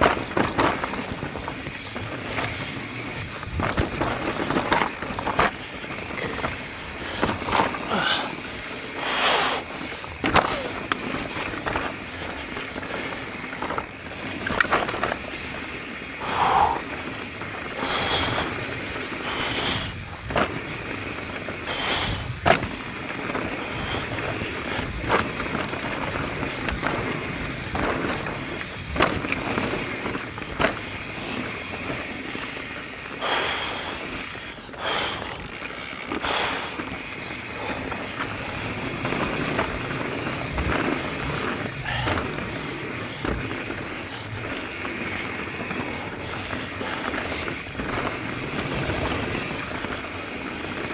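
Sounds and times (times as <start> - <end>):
bike knocking and rattling: 0.0 - 50.9
bike tyre and wind noise: 0.0 - 50.9.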